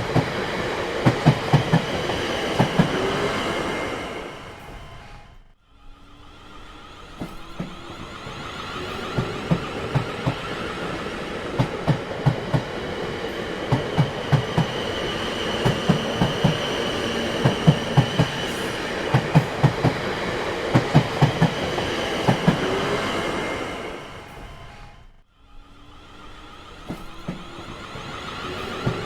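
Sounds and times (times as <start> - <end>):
train wheels clacking over rails: 0.0 - 5.1, 7.1 - 25.0, 26.7 - 29.0
train rumble: 0.0 - 29.0.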